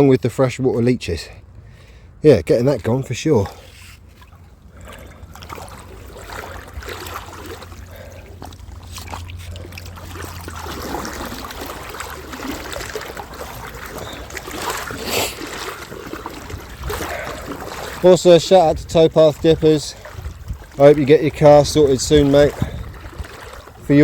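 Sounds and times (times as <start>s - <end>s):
river water splashing and trickling: 0.0s - 24.0s.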